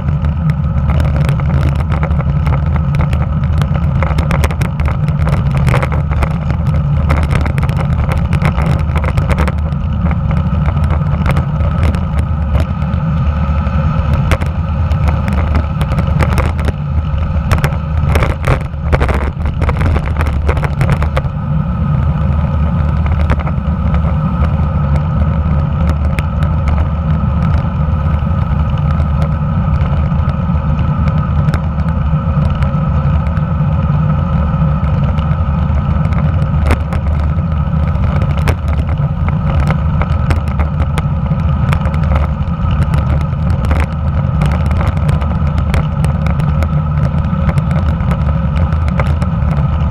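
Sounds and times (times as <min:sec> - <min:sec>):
bicycle rattles and knocks: 0:00.0 - 0:49.9
tyres rumbling on asphalt: 0:00.0 - 0:49.9
wind rushing over camera: 0:00.0 - 0:49.9.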